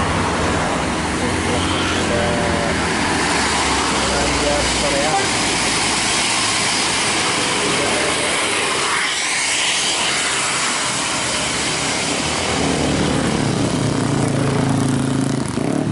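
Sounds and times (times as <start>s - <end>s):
bus passing close: 0.0s - 15.9s
low engine drone: 0.0s - 15.9s.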